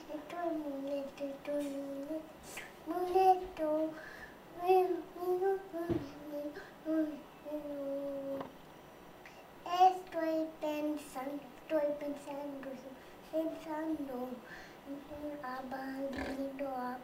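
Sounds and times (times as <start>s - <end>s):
boy singing in high voice: 0.0s - 8.5s, 9.6s - 17.0s.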